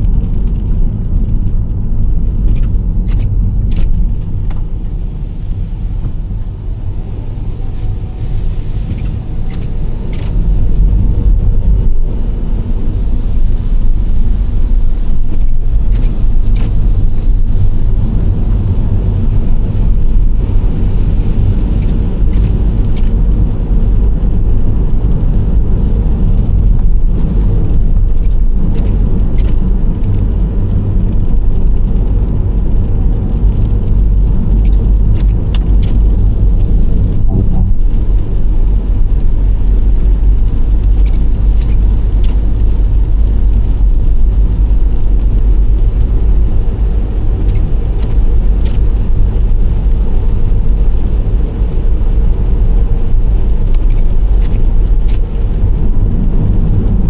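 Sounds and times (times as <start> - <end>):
minivan engine and road rumble: 0.0 - 57.0.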